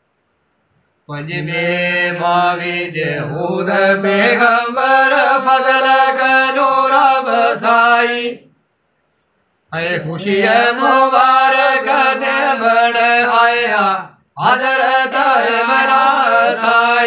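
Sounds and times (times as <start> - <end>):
men singing unaccompanied: 1.1 - 8.5, 9.7 - 17.0.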